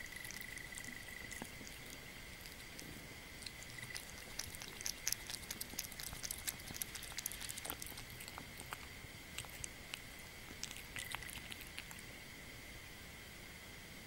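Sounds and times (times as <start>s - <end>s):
kitten lapping and chewing: 0.0s - 12.4s.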